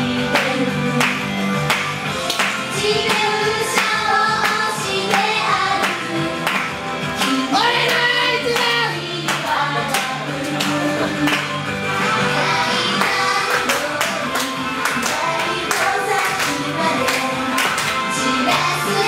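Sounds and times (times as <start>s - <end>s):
female group singing pop song: 0.0s - 1.2s, 2.7s - 11.4s, 12.3s - 19.0s
backing track with steady beat: 0.0s - 19.0s.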